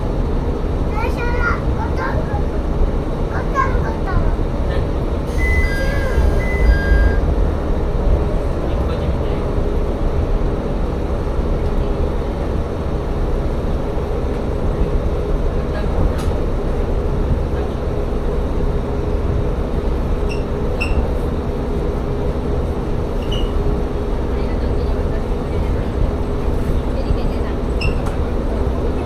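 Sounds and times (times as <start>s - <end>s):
railcar engine drone: 0.0s - 29.0s.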